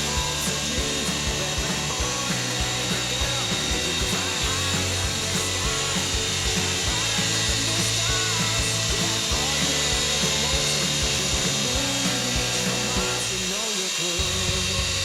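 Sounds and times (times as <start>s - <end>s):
toy helicopter motors whining: 0.0s - 15.0s.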